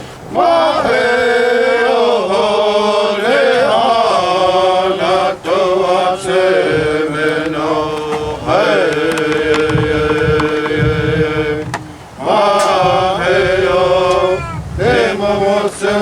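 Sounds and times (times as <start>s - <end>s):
person singing prayer song: 0.3s - 16.0s.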